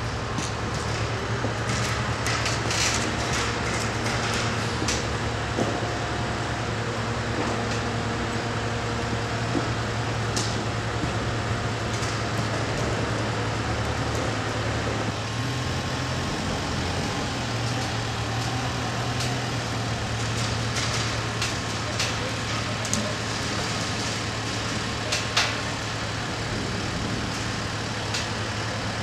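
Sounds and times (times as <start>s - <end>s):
heavy equipment engine humming: 0.0s - 29.0s.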